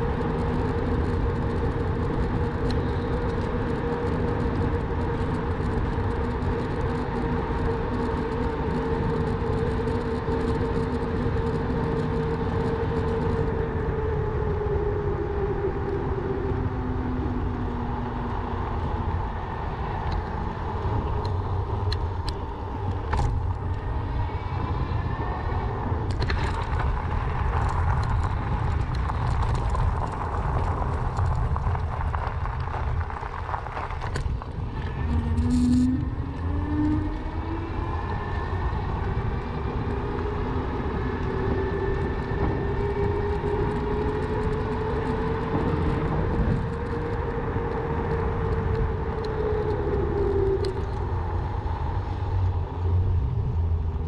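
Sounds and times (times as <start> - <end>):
bicycle riding rumble: 0.0 - 54.0
rising whine: 0.0 - 54.0.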